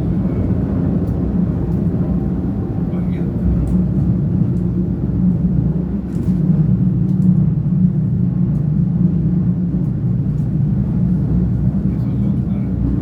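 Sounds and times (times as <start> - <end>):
railcar engine drone: 0.0 - 13.0.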